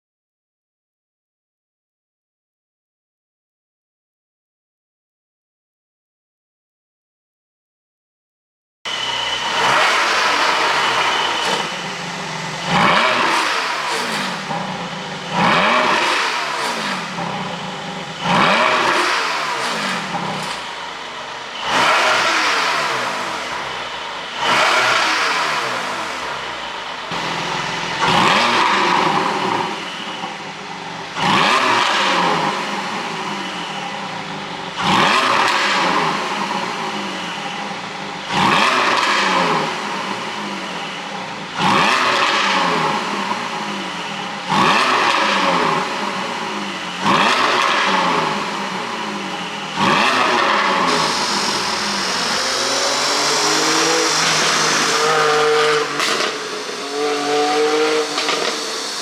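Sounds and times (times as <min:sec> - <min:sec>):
car engine revving with exhaust pops: 0:08.9 - 0:59.0.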